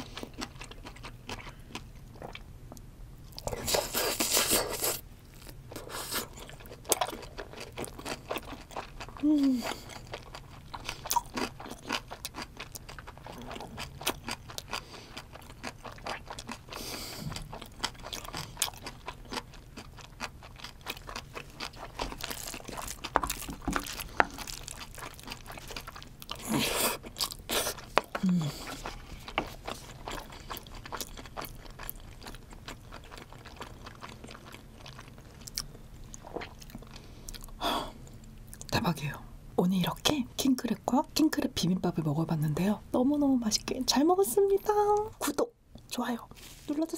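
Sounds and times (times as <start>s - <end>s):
chewing with wet crunches: 0.0s - 2.5s, 3.3s - 38.8s.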